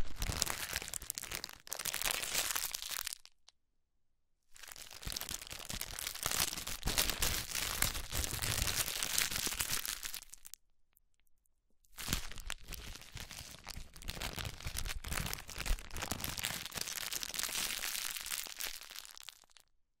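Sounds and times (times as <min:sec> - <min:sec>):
plastic packaging crinkling: 0:00.0 - 0:03.4, 0:04.6 - 0:10.6, 0:12.0 - 0:19.7.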